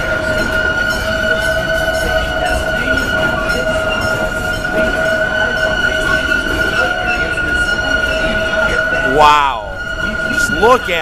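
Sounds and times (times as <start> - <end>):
train wheels squealing: 0.0 - 11.0.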